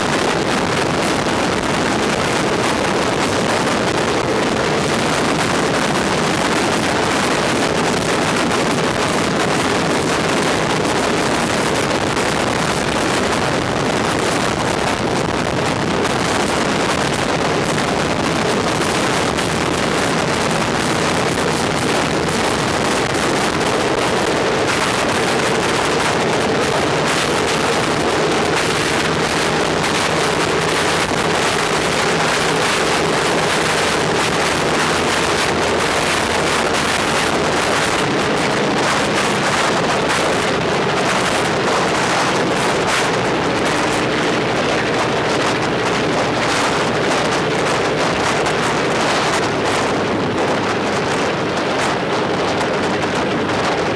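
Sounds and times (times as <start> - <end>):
propeller wash buffeting microphone: 0.0 - 53.9.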